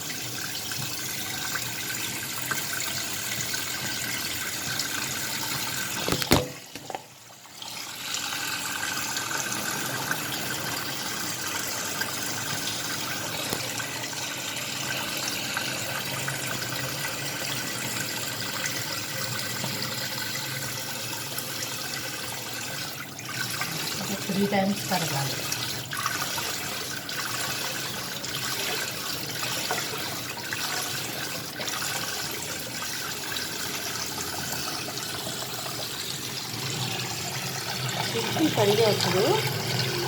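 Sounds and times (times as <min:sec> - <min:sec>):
tap water running into sink: 0:00.0 - 0:40.0.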